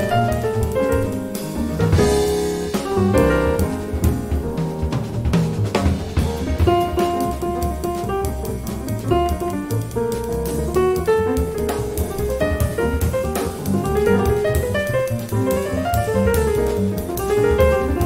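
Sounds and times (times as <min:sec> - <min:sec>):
drums and bass: 0:00.0 - 0:18.0
jazz piano melody: 0:00.0 - 0:18.0.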